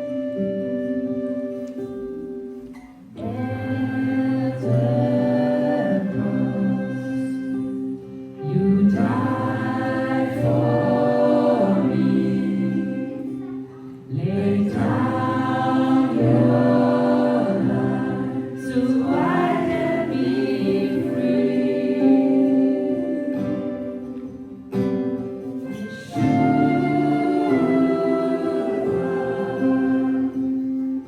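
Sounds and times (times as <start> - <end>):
sustained instrumental accompaniment: 0.0 - 31.0
group singing worship song: 3.1 - 24.4, 25.6 - 31.0.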